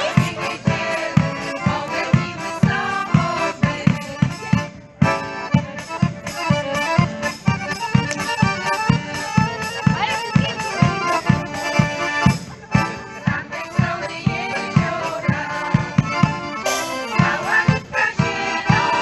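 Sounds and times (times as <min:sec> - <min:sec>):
accordion melody: 0:00.0 - 0:19.0
frame drum beat: 0:00.0 - 0:19.0.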